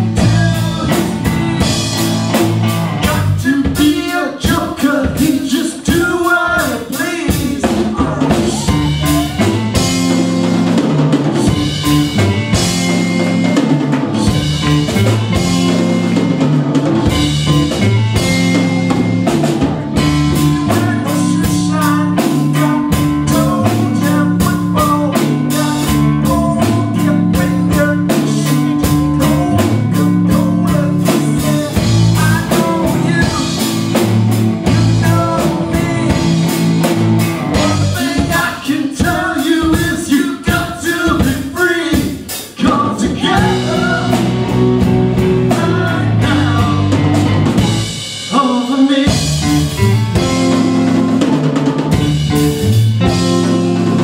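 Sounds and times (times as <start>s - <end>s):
drum kit beat: 0.0s - 54.0s
live rock band playing: 0.0s - 54.0s.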